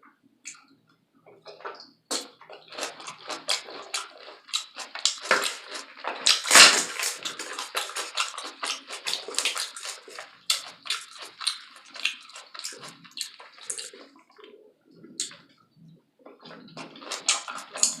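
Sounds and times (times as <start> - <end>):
crunchy chewing: 1.3 - 18.0.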